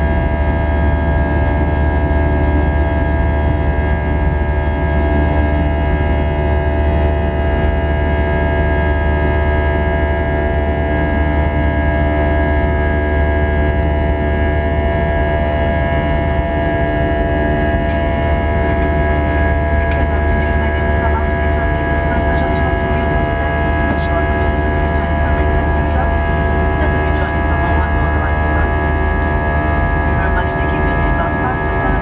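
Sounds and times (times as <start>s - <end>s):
jet engines droning in cabin: 0.0s - 32.0s.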